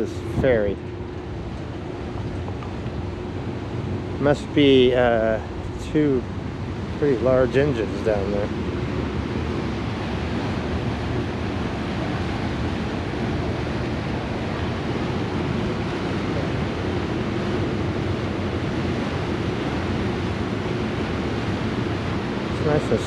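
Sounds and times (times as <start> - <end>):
ferry engines humming: 0.0 - 23.0
rush of wind and water: 0.0 - 23.0
wind buffeting microphone: 0.0 - 23.0.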